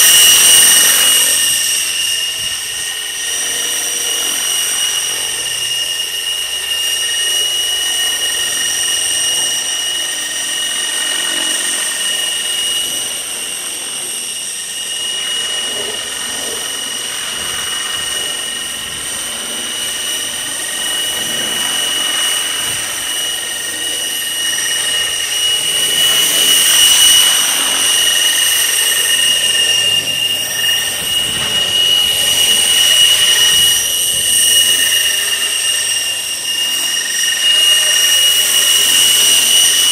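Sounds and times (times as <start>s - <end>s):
rc helicopter high-pitched whine: 0.0s - 39.9s.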